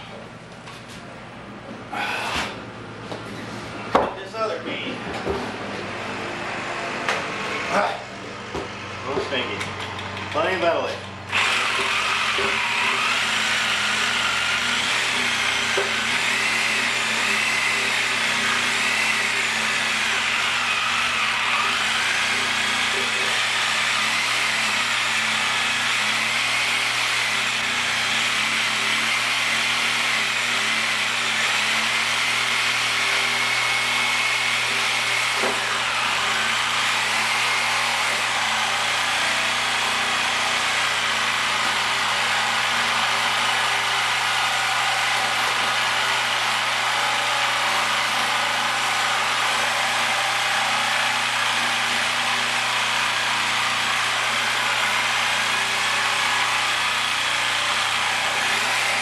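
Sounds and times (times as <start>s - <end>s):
reciprocating saw cutting tire: 11.3s - 59.0s.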